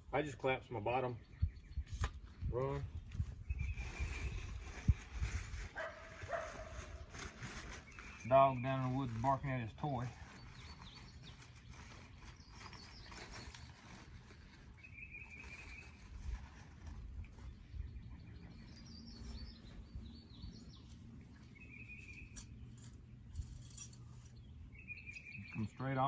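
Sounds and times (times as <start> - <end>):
birds singing faintly: 0.0 - 26.0.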